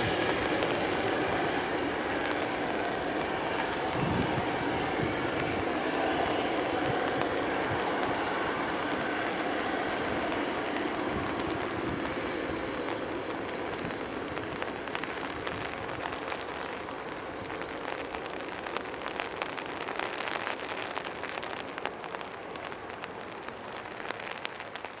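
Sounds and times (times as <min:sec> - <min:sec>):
jet engine rumble: 0:00.0 - 0:25.0
rain hissing: 0:00.0 - 0:25.0
raindrops ticking: 0:00.0 - 0:25.0.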